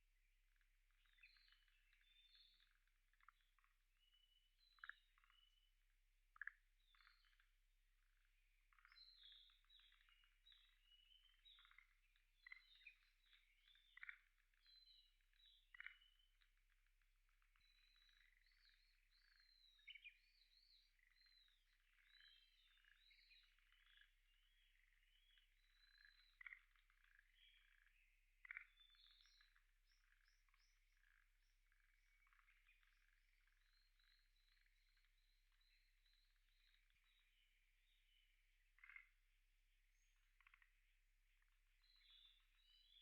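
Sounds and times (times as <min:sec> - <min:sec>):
birds singing: 0:00.6 - 0:05.8, 0:06.4 - 0:43.0.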